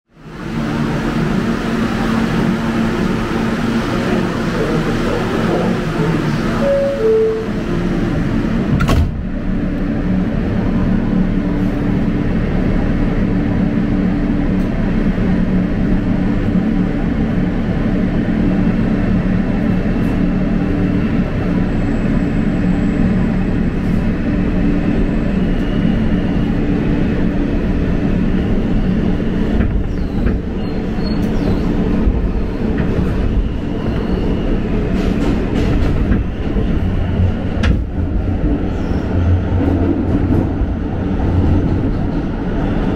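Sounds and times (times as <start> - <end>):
subway train rumble and hum: 0.1 - 42.9.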